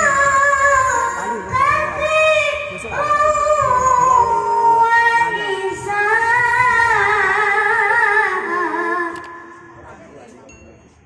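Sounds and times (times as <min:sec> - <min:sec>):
child reciting melodically over pa: 0:00.0 - 0:09.6.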